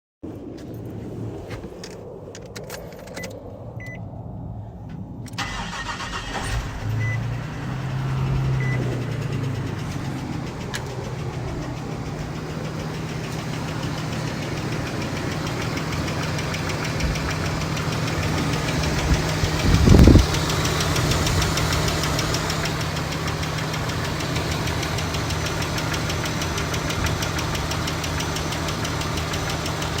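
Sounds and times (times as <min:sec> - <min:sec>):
car engine starting and idling: 0:05.3 - 0:30.0
loud rapid engine ticking: 0:05.4 - 0:30.0.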